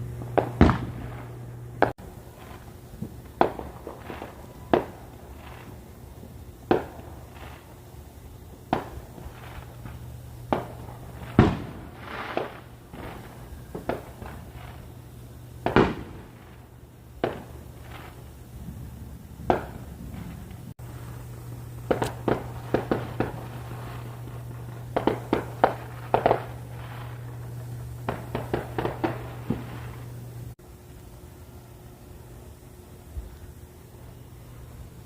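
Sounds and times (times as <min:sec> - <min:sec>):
fireworks bangs and crackles: 0:00.0 - 0:30.6
low hum: 0:00.0 - 0:35.0.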